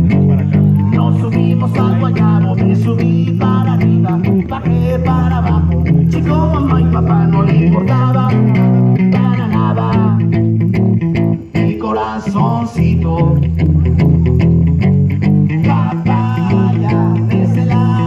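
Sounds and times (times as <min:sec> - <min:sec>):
bass guitar line: 0:00.0 - 0:18.0
electric guitar lead line: 0:00.0 - 0:18.0.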